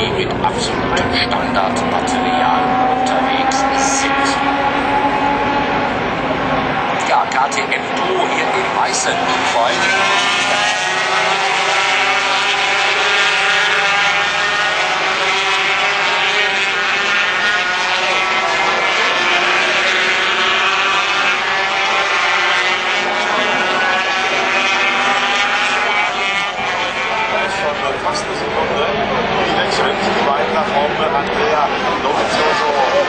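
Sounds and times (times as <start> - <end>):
racing motorcycles passing: 0.0 - 33.0.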